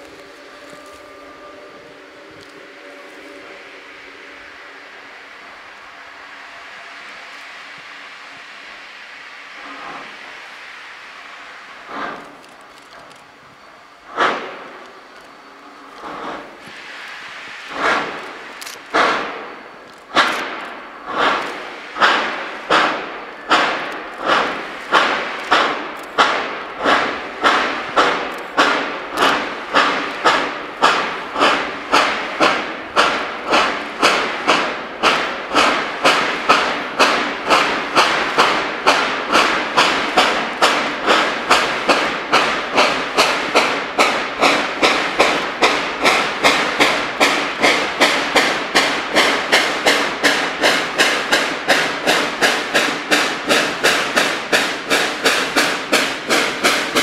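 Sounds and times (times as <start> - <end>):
steam locomotive exhaust chuffing: 0.0 - 57.0.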